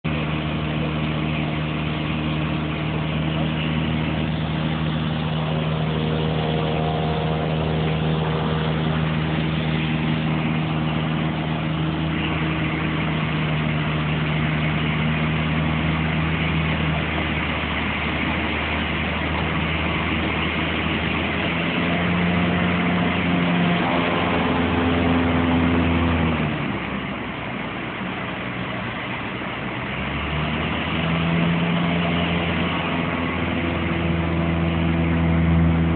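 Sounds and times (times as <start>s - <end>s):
airplane engine and propeller: 0.0s - 35.9s
rush of airflow: 0.1s - 29.6s.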